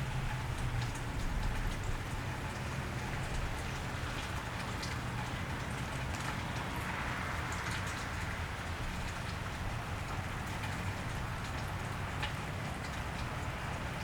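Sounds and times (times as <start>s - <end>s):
raindrops ticking: 0.0s - 14.0s
steady rain hissing: 0.0s - 14.0s.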